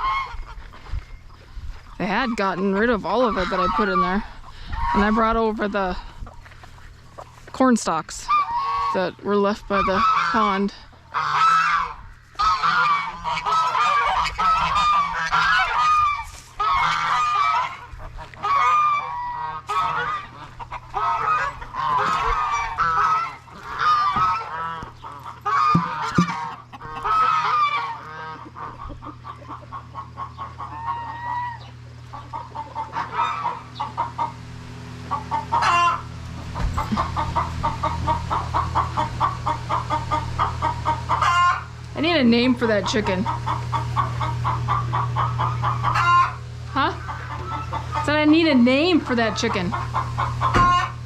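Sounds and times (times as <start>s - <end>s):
hen squawking: 0.0s - 0.6s, 1.9s - 6.1s, 8.2s - 34.4s, 35.1s - 36.1s, 36.8s - 51.0s
hen clucking: 0.0s - 51.0s.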